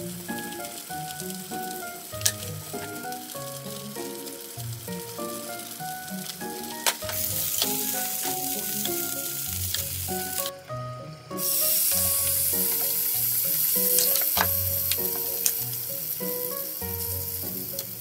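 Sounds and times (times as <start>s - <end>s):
meat sizzling in a frying pan: 0.0s - 10.6s, 11.4s - 18.0s
light background melody: 0.0s - 18.0s.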